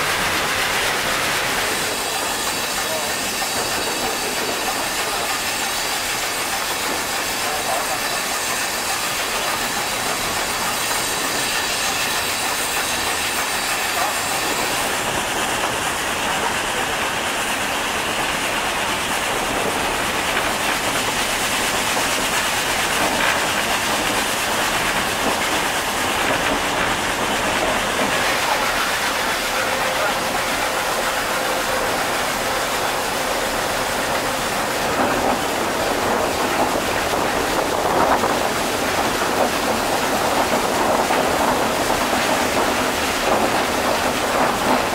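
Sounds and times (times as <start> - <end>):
train wheels rattling on track: 0.0 - 44.9.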